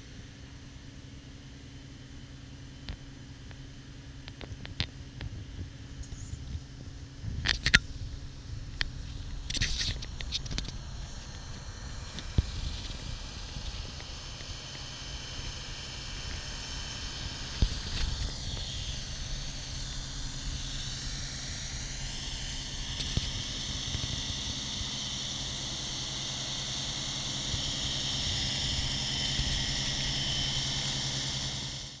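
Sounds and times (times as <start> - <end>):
high whine: 0.0 - 32.0
snowblower engine rumble: 0.0 - 32.0.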